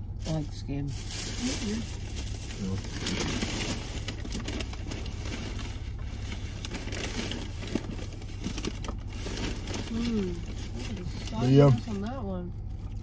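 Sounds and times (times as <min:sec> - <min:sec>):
steady low hum: 0:00.0 - 0:13.0
paper wrappers rustling: 0:00.1 - 0:12.2.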